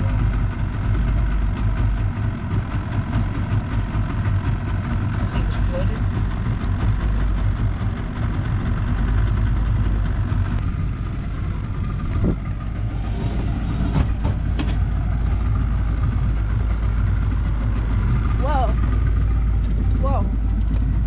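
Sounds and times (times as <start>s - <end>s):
motorboat engine idling: 0.0s - 21.0s.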